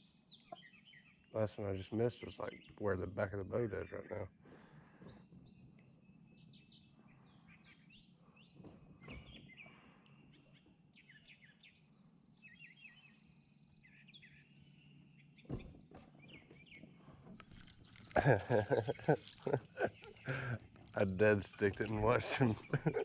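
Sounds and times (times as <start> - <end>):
faint low hum: 0.0 - 23.0
birds chirping and whistling: 3.9 - 23.0.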